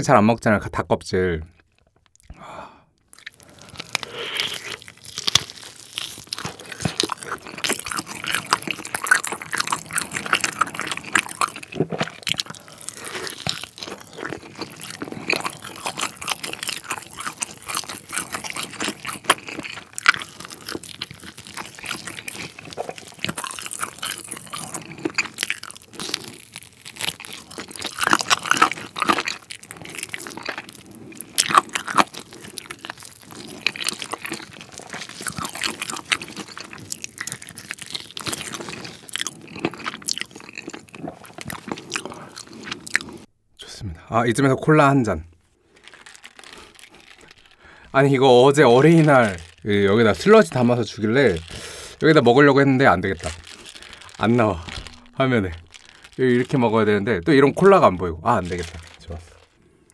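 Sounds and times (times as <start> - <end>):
biting and chewing mouth clicks: 3.0 - 43.3, 45.7 - 56.8, 58.3 - 59.9.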